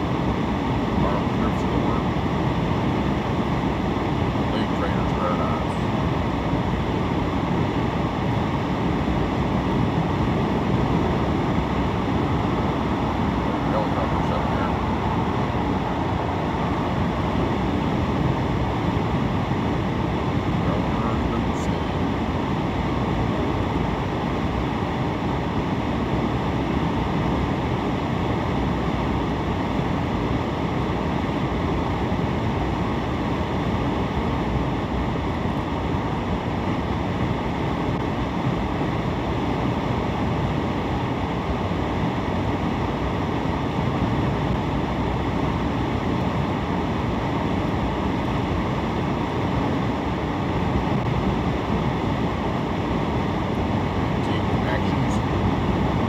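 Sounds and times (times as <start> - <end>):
car road and tyre noise: 0.0 - 56.0.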